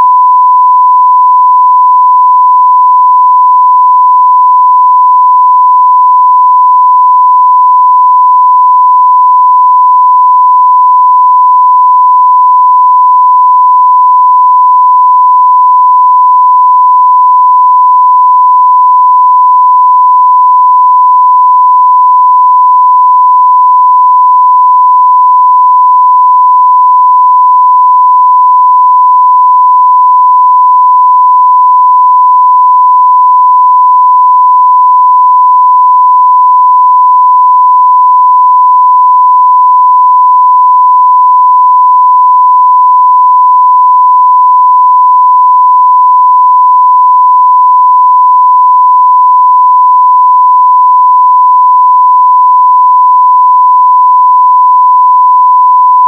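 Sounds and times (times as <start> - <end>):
sine-wave test tone: 0.0 - 56.0.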